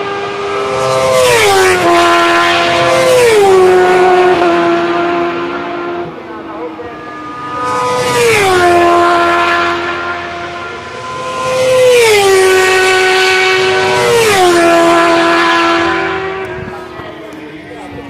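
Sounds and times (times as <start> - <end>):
racing motorcycles passing by: 0.0 - 18.0.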